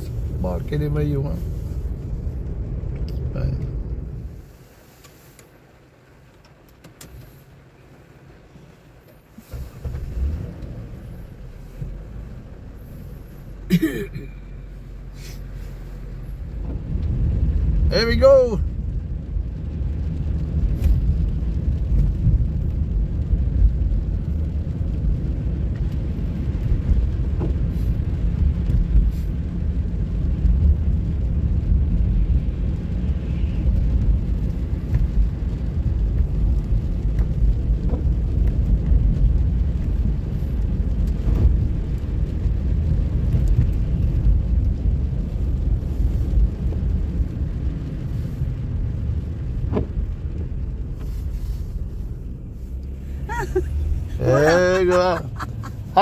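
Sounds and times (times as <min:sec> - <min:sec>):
car engine running: 0:00.0 - 0:56.0
tyre noise on slushy road: 0:00.0 - 0:56.0.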